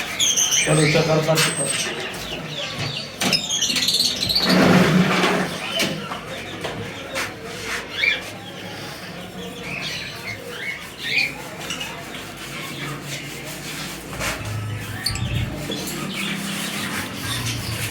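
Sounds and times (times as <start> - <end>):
birds chirping and squawking: 0.0 - 17.9.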